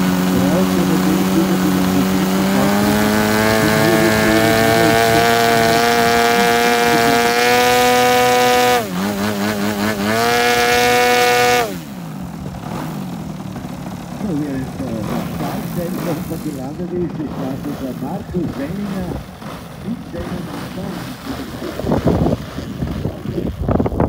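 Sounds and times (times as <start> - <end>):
model plane engine running: 0.0 - 24.0.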